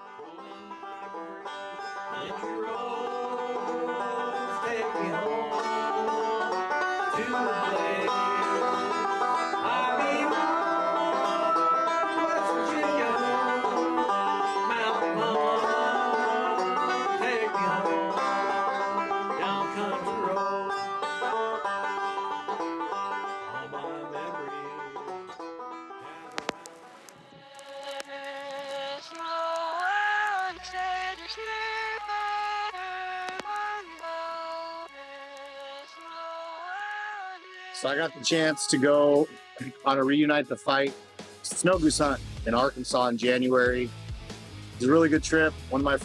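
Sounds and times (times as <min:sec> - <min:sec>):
banjo picking bluegrass: 0:00.0 - 0:44.0, 0:44.7 - 0:46.0.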